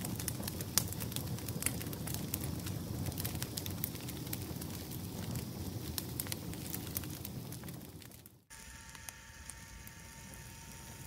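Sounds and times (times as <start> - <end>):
campfire crackling and popping: 0.0 - 10.3
low rumble of flames: 0.0 - 11.0.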